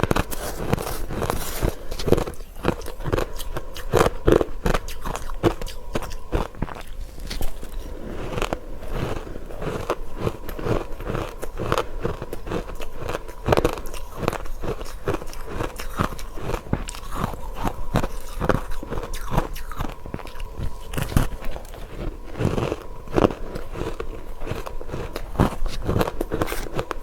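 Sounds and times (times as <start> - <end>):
ice crunching being chewed: 0.0 - 27.0.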